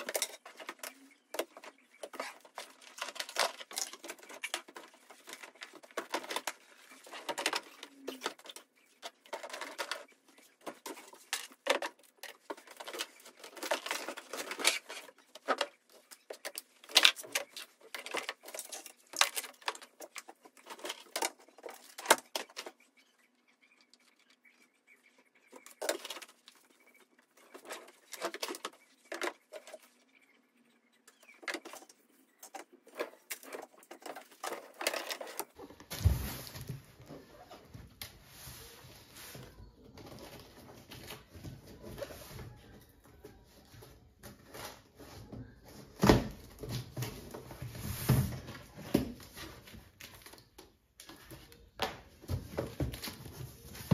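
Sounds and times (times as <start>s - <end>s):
rustling: 0.0s - 53.9s.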